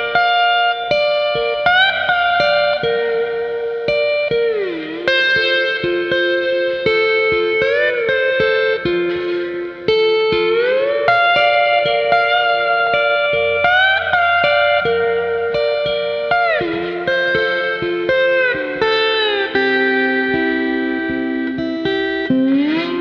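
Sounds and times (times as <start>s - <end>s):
hawaiian steel guitar sliding notes: 0.0s - 23.0s
plucked guitar notes: 0.0s - 23.0s.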